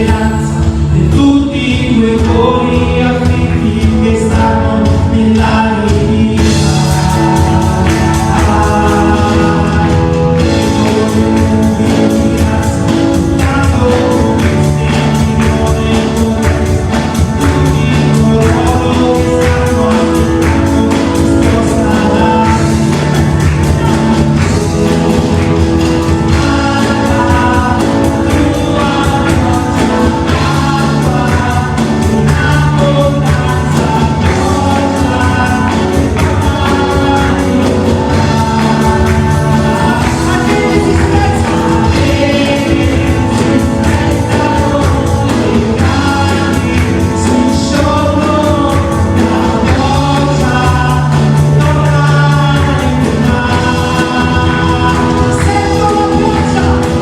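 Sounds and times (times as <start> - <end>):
held chords: 0.0 - 57.0
steady drum beat: 0.0 - 57.0
voices singing: 0.0 - 57.0.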